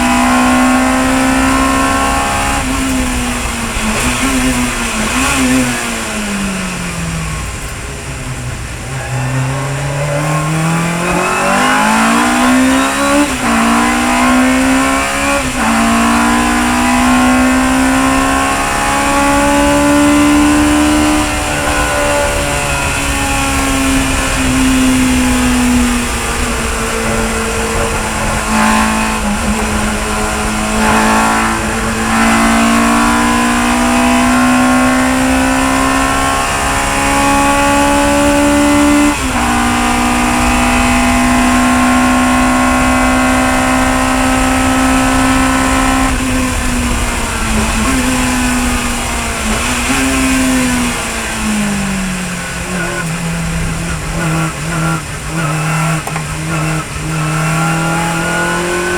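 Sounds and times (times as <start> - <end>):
racing car engine running hard: 0.0 - 58.9.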